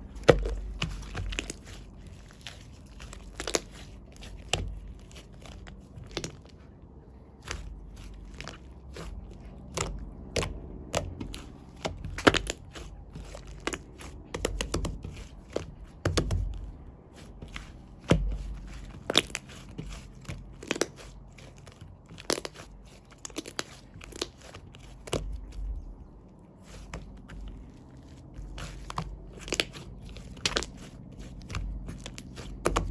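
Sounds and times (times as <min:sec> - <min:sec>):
soft squishy thuds: 0:00.0 - 0:32.9.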